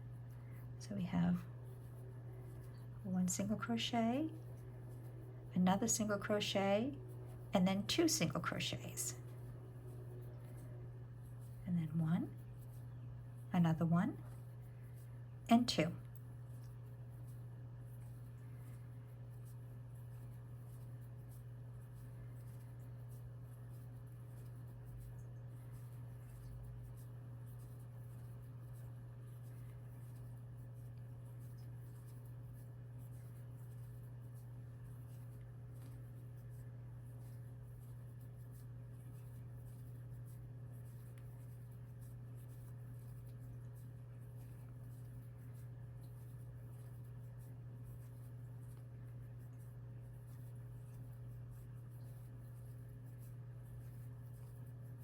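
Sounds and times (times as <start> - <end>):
steady low hum: 0.0 - 55.0
crochet hook scratching yarn: 0.9 - 55.0.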